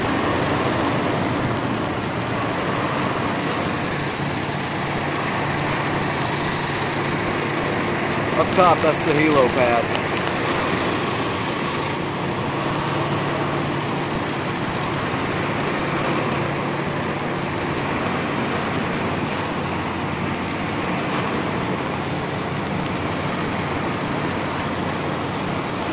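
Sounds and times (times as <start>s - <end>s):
broad rushing noise: 0.0s - 25.9s
machinery droning: 0.0s - 25.9s.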